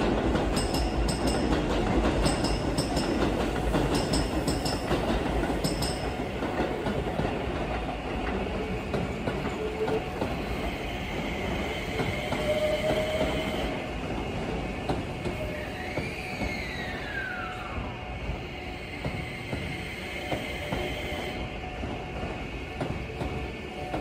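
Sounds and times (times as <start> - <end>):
train wheels clattering over rails: 0.0 - 16.8, 18.8 - 24.0.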